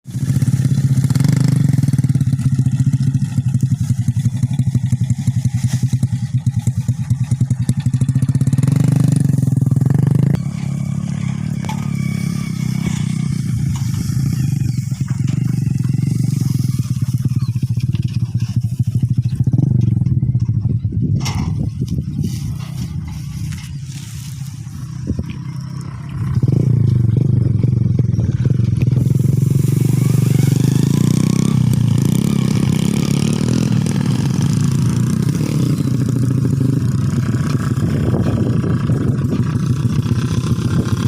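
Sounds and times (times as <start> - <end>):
motorbike engine running: 0.0 - 41.0.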